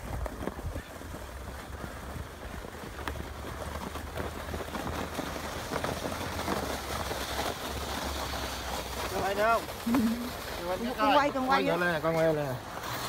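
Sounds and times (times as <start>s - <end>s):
plastic sled scraping over snow: 0.0s - 13.0s.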